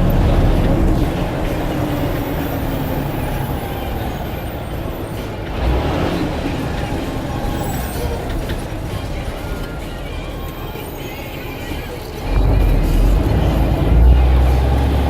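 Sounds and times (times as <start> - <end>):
bus bump: 0.0 - 15.0
bus engine and road noise: 0.0 - 15.0.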